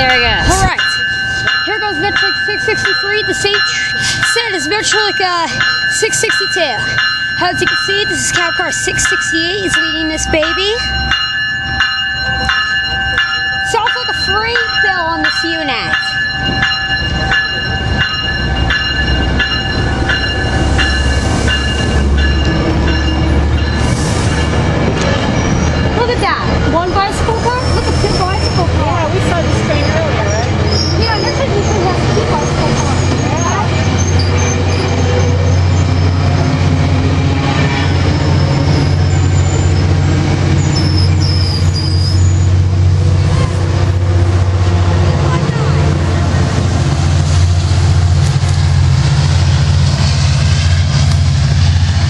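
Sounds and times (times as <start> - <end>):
train warning bell ringing: 0.0 - 51.4
diesel locomotive drone: 0.0 - 52.0
train rumble: 0.0 - 52.0.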